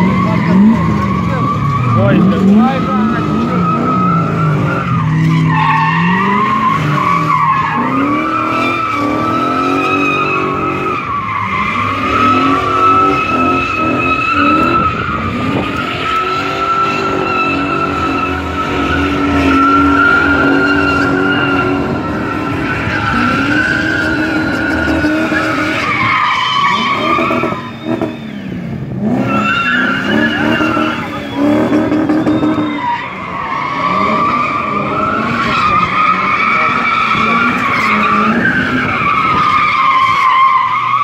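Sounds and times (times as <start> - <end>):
car engine revving: 0.0 - 41.0
tyres squealing: 0.0 - 41.0.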